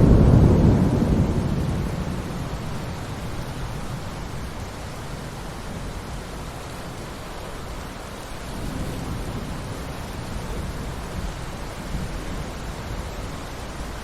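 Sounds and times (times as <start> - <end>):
thunder rumble: 0.0 - 6.5, 8.4 - 14.0
steady rain: 0.0 - 14.0.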